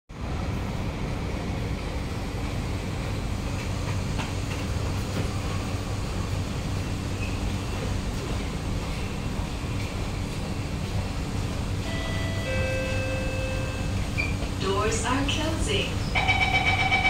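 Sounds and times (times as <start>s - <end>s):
train car equipment hum: 0.1s - 17.0s.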